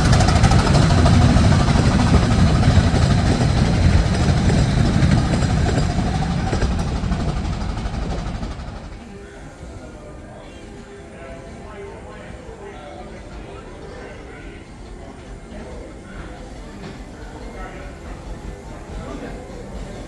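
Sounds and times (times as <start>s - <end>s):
miniature steam train running past: 0.0s - 20.0s.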